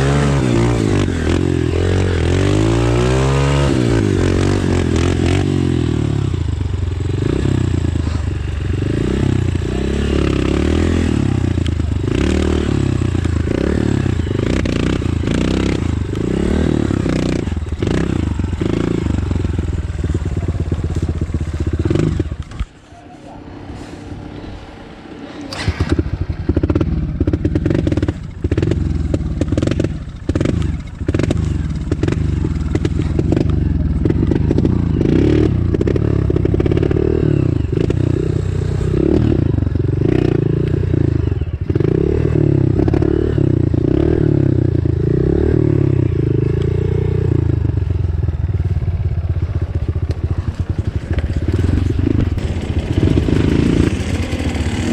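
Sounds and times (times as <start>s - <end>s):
motocross bike engine revving: 0.0s - 22.8s, 24.8s - 54.9s.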